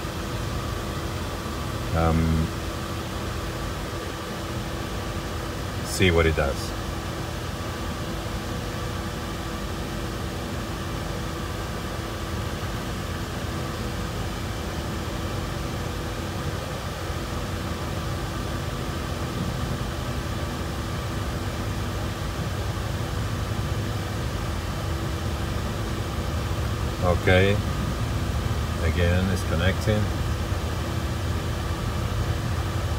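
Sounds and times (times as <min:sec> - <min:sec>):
fan-like mechanical hum: 0:00.0 - 0:32.9.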